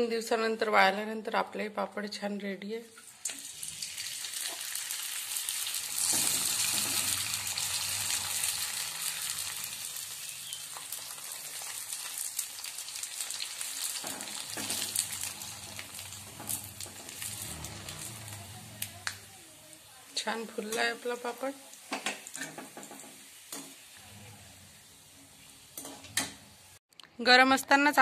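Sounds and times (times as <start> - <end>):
food sizzling in hot oil: 3.0 - 26.8.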